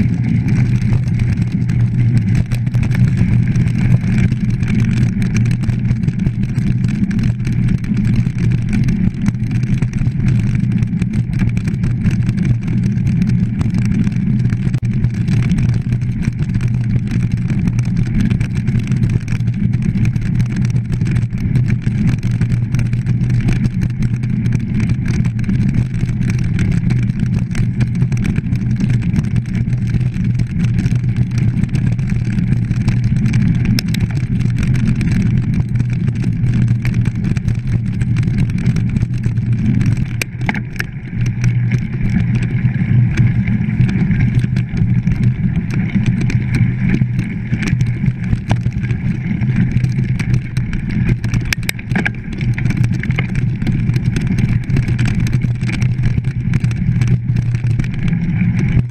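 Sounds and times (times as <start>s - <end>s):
bike knocks and rattles: 0.0s - 58.9s
tyre rumble: 0.0s - 58.9s.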